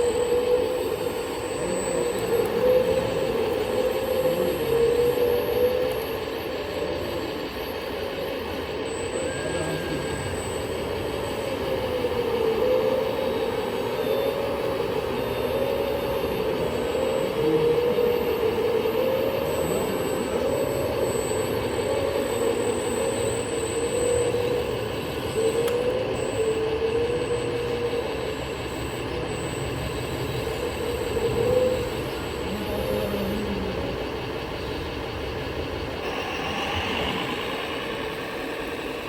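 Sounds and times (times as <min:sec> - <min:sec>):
model vehicle motor whine: 0:00.0 - 0:39.0.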